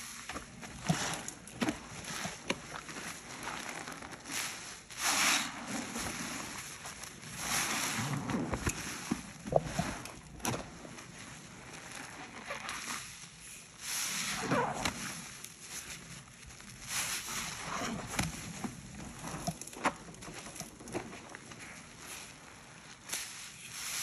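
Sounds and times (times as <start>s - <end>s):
sponge squelching: 0.0s - 24.0s.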